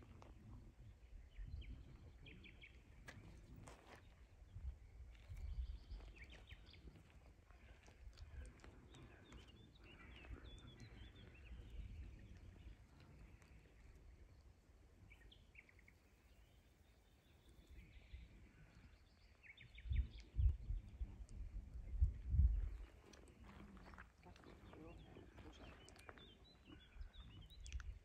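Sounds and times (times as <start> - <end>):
wind rumble on microphone: 0.0 - 14.1, 19.5 - 28.0
small birds chirping: 0.1 - 28.0.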